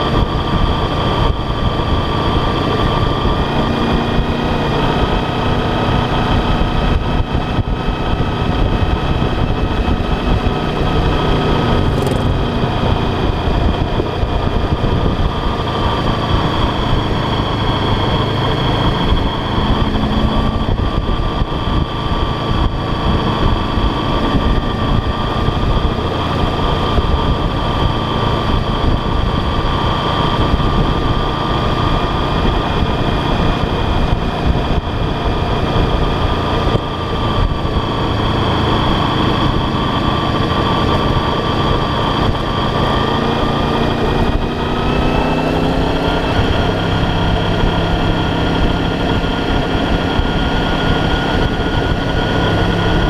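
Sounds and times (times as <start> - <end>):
motorcycle engine running: 0.0 - 53.0
wind rush on microphone: 0.0 - 53.0.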